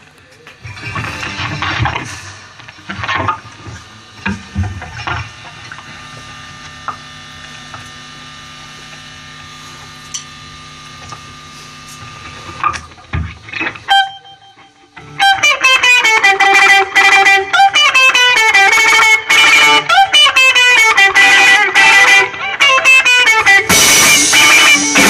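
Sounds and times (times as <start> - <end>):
guitar amplifier humming: 0.0 - 25.0.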